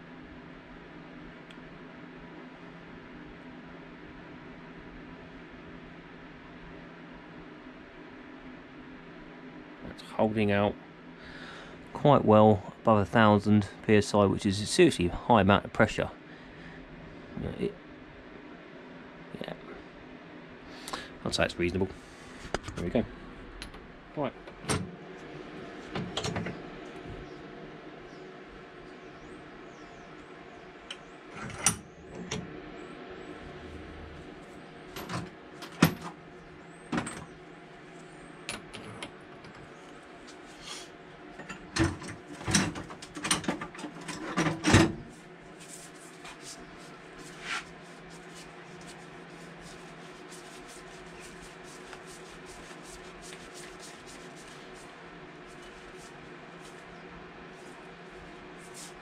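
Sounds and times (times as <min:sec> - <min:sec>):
low workshop hum: 0:00.0 - 0:59.0.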